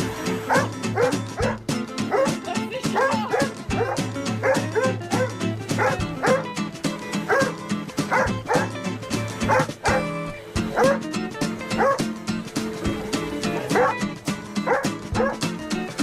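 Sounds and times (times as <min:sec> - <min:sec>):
music: 0:00.0 - 0:16.0
dog barking and yipping: 0:00.4 - 0:12.2, 0:13.5 - 0:15.6.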